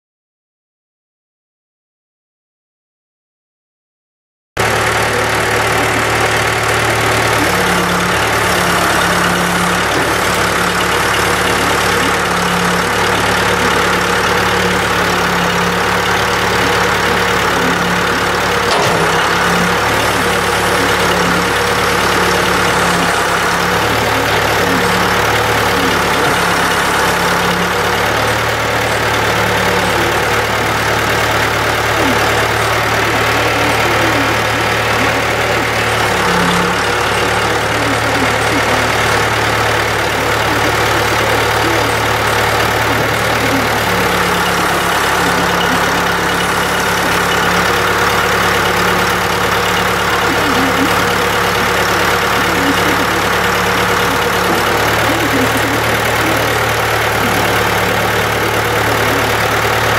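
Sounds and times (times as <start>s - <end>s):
diesel engine running: 4.6s - 59.9s
hydraulic arm working: 4.6s - 59.9s.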